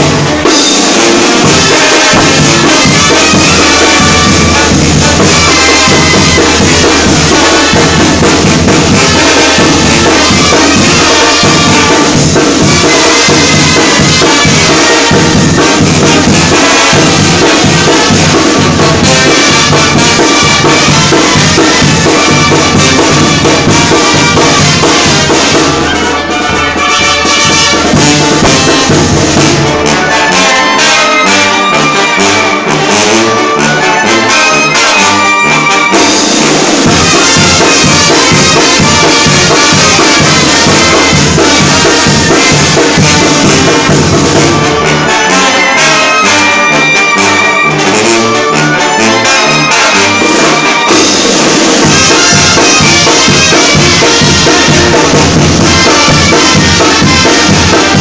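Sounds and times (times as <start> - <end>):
bass drum and cymbals: 0.0 - 33.4, 35.0 - 45.1, 49.8 - 58.0
brass band playing: 0.0 - 58.0.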